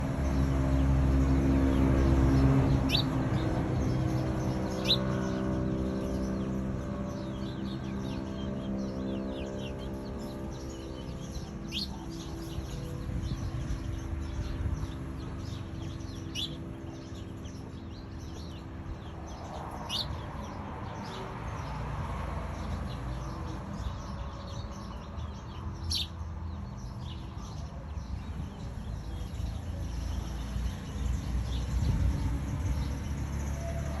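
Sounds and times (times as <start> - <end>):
wild birds chirping: 0.0 - 34.0.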